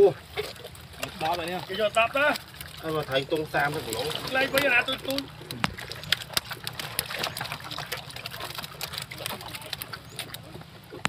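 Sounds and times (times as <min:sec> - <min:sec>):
fish slapping and splashing in net: 0:00.0 - 0:11.0
low steady hum: 0:00.0 - 0:11.0.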